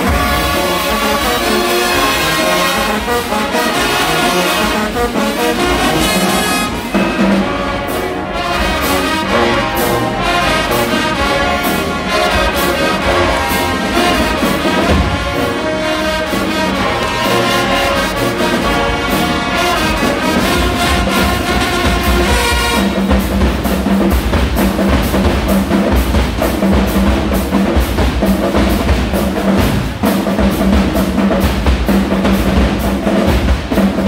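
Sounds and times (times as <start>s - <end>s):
drum hits: 0.0s - 34.0s
marching band brass: 0.0s - 34.0s.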